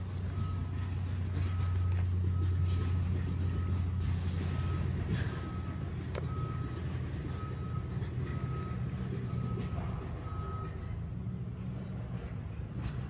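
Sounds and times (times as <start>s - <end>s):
engine idling: 0.0s - 11.5s.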